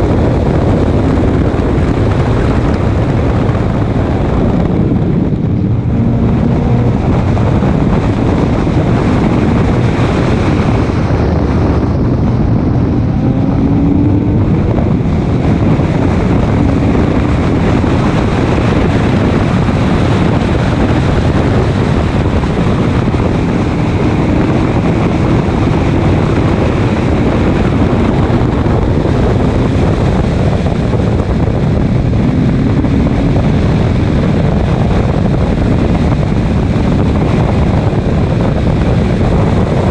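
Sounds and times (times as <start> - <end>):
race car engine: 0.0 - 39.9
wind noise: 0.0 - 39.9.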